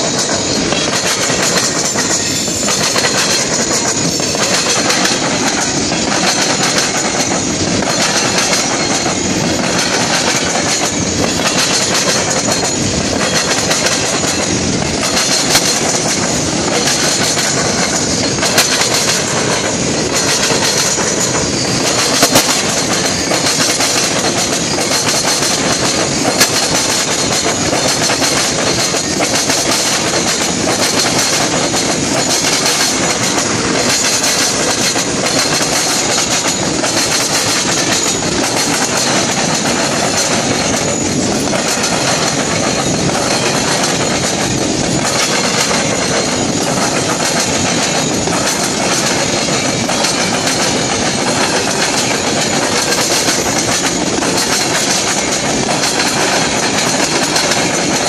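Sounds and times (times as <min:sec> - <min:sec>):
steel wheels rumbling on rail: 0:00.0 - 0:58.0
wheels clacking over rail joints: 0:00.0 - 0:58.0.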